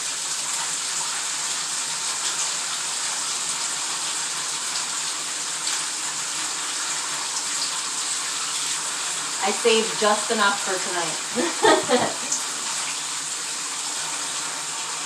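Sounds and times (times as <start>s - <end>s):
water running from tap into tub: 0.0s - 15.0s.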